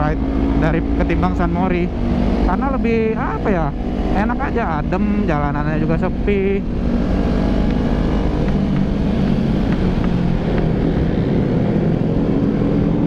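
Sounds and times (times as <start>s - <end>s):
motorcycle engine cruising: 0.0s - 13.0s
wind rushing over microphone: 0.0s - 13.0s.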